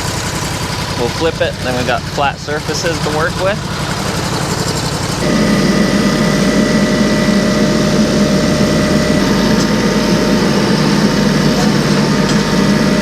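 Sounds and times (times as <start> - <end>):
engine running with whine: 0.0 - 13.0.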